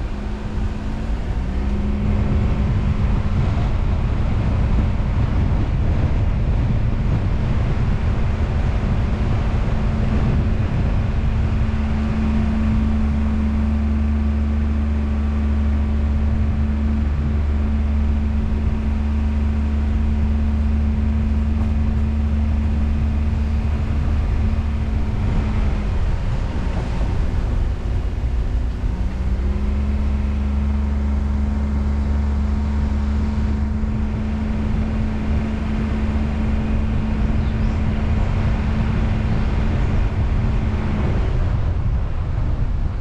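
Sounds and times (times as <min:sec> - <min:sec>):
car engine drone: 0:00.0 - 0:43.0
road noise: 0:00.0 - 0:43.0.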